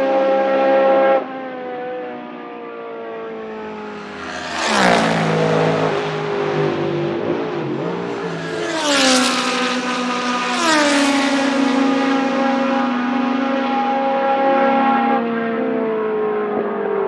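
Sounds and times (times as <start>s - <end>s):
racing cars passing by: 0.2s - 17.0s.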